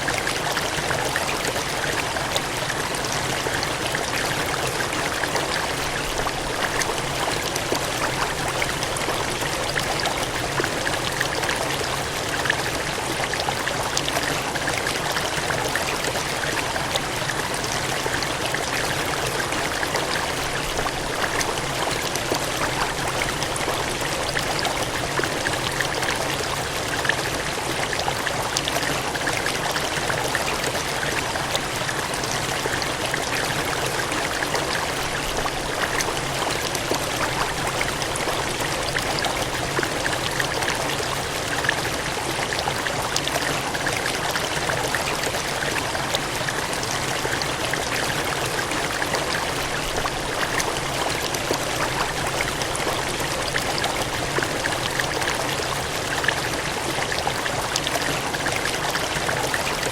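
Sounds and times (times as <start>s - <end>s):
gushing cascading water: 0.0s - 59.9s.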